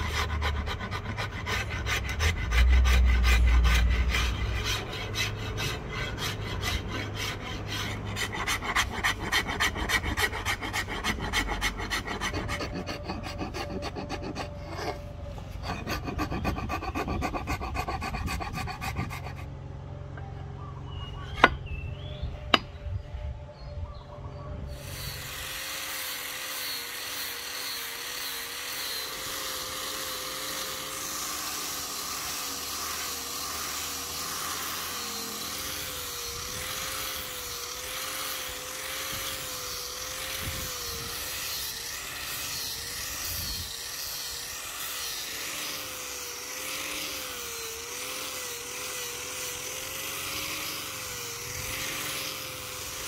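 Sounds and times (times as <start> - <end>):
angle grinder hissing: 0.0 - 19.5, 24.8 - 53.0
rasp filing wood: 0.0 - 19.5, 24.8 - 53.0.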